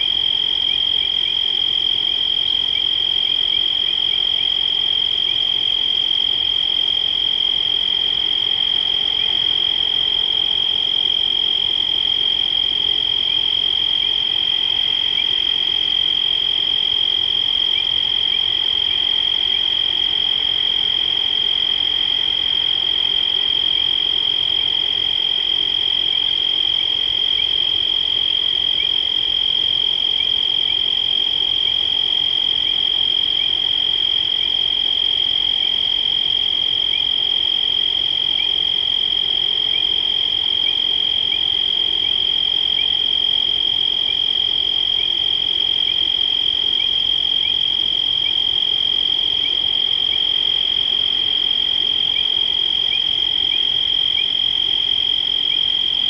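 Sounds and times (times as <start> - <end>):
frogs and insects chorus: 0.0 - 56.0.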